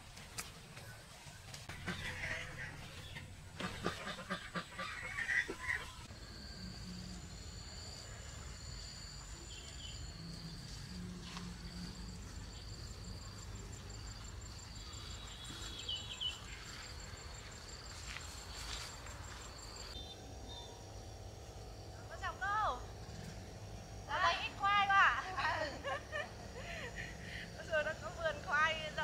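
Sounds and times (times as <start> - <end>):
faint outdoor ambience: 0.0 - 29.0.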